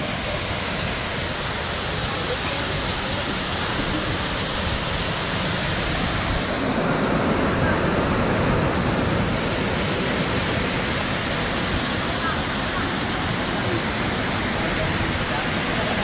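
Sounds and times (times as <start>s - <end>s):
waterfall pouring: 0.0s - 16.0s.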